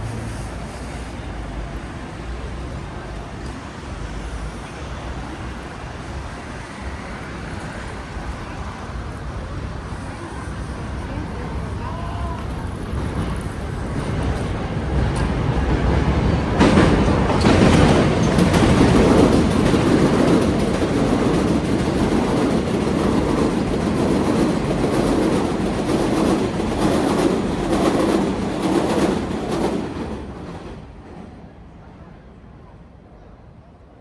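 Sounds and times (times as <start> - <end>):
elevated subway train passing: 0.0 - 34.0.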